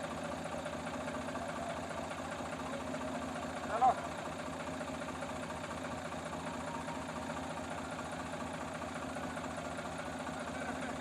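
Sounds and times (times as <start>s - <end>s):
tractor diesel engine chugging: 0.0s - 11.0s.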